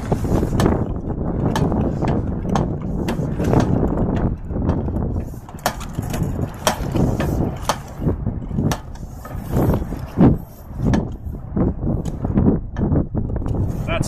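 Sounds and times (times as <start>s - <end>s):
roller scraping on panel: 0.0s - 11.4s.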